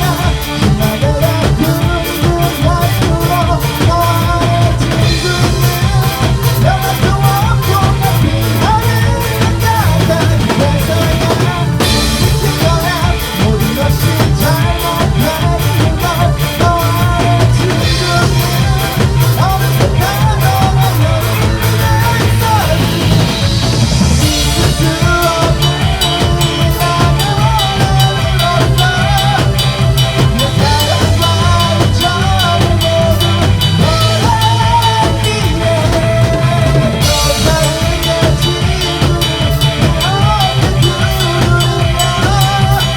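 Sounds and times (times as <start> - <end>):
drum kit steady beat: 0.0 - 42.9
electronic rock band playing: 0.0 - 42.9
wavering lead melody: 0.0 - 42.9.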